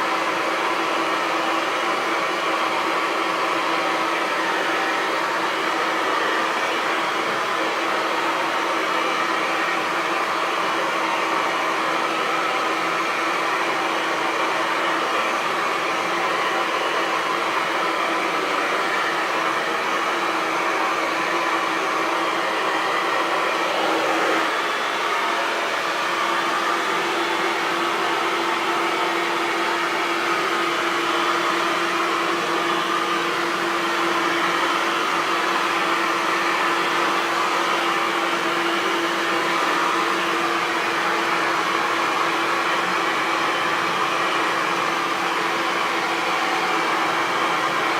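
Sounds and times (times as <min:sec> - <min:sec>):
hair dryer running: 0:00.0 - 0:47.9.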